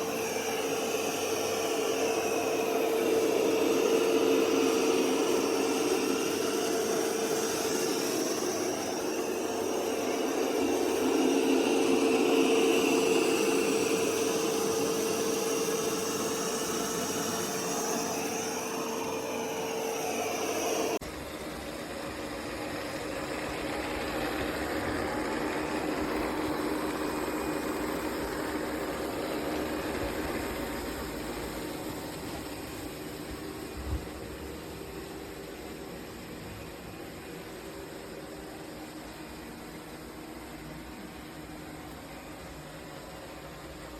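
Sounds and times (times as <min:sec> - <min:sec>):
robot vacuum running: 0:00.0 - 0:43.9.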